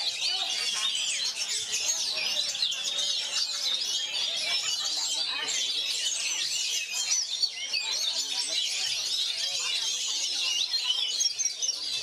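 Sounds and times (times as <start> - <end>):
birds singing whistles and chirps: 0.0 - 12.0.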